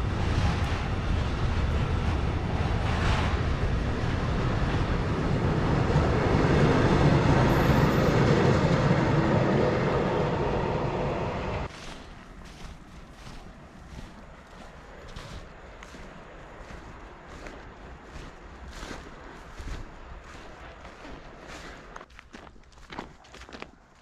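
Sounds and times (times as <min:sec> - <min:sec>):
train wheels on rails: 0:00.0 - 0:22.1.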